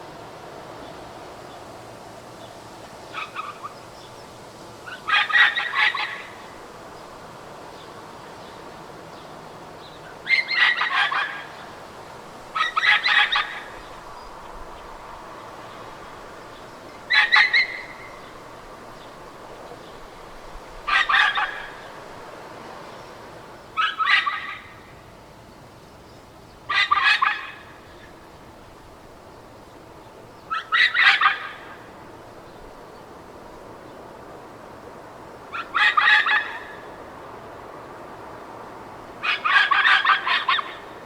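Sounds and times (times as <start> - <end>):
background hiss: 0.0 - 41.0.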